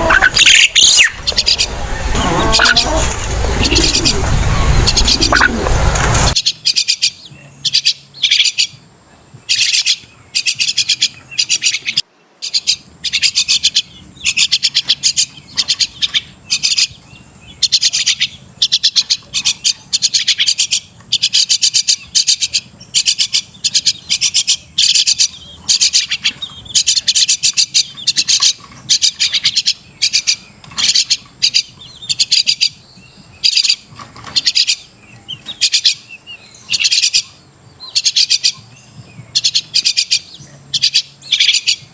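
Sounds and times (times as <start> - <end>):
bird harsh chattering calls: 0.0 - 8.8, 9.5 - 41.9.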